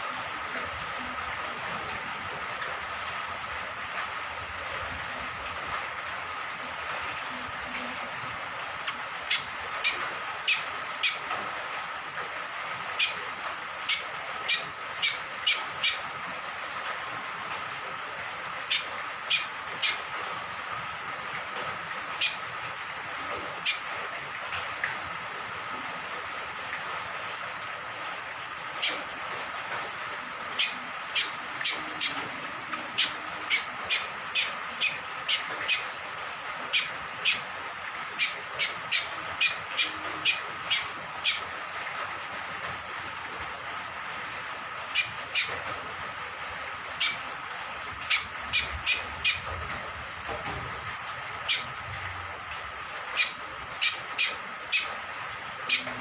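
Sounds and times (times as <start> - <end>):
hiss of rain or running water: 0.0 - 56.0.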